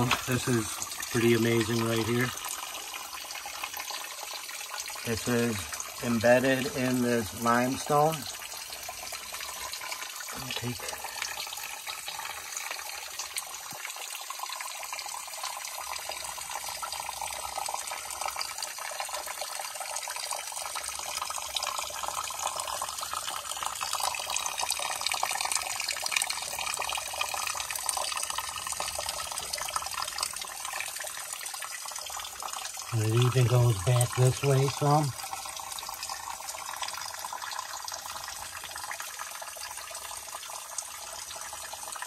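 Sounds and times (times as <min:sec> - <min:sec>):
water trickling over rock: 0:00.0 - 0:42.0.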